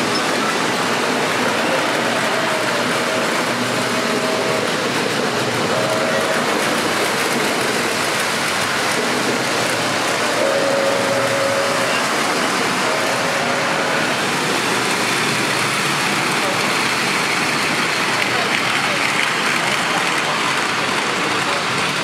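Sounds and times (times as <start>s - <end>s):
hum of busy room: 0.0s - 22.0s
model trains rolling and whirring: 0.0s - 22.0s.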